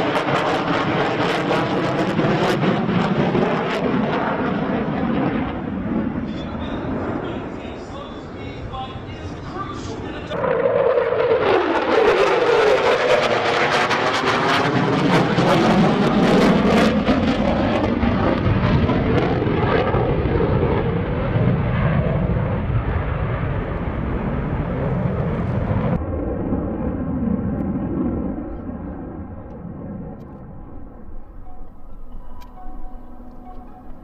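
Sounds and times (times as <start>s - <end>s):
fighter jet flying past: 0.0s - 32.1s.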